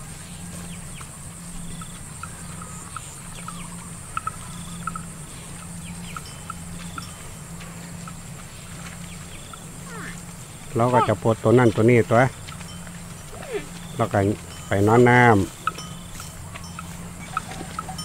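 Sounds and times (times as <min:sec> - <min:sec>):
steady low hum: 0:00.0 - 0:18.0
small animals chirping: 0:00.8 - 0:18.0.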